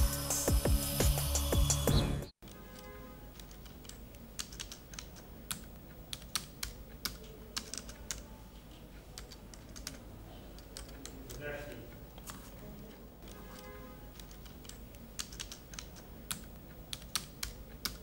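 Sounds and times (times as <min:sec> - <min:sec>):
laptop keyboard typing: 0:02.4 - 0:08.4, 0:09.0 - 0:18.0.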